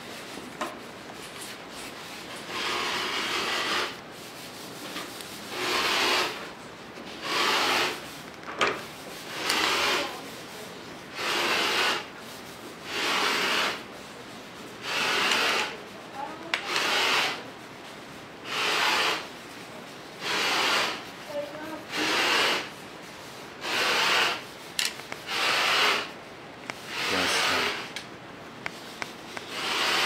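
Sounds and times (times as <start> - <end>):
cloth rubbing wooden spoon: 0.0 - 28.0.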